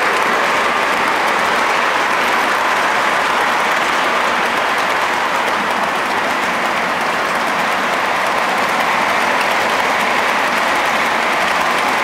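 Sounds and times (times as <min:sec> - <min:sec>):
model train wheels clattering: 0:00.0 - 0:12.0.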